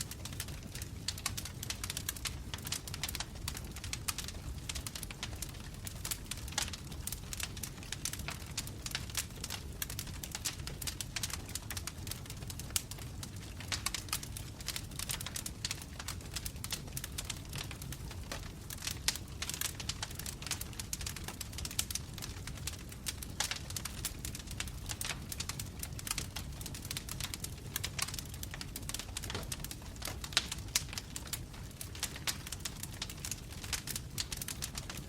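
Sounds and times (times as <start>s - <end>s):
logs crackling and popping: 0.0s - 35.0s
low rumble of flames: 0.0s - 35.0s.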